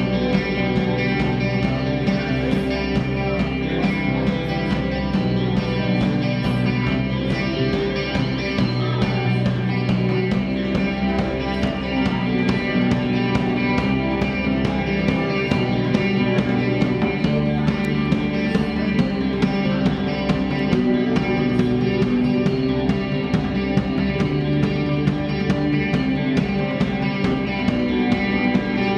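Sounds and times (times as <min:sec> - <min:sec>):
electric guitars: 0:00.0 - 0:28.9.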